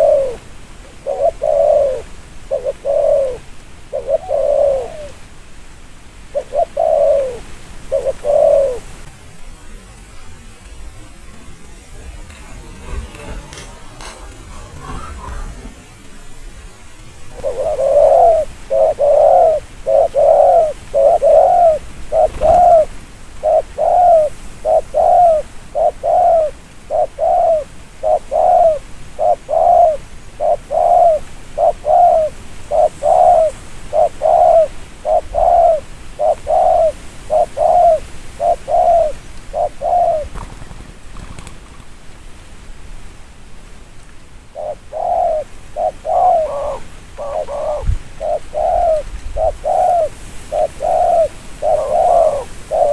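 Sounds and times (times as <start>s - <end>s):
dove cooing: 0.0s - 5.3s, 6.3s - 16.4s, 17.2s - 41.4s, 44.5s - 52.9s.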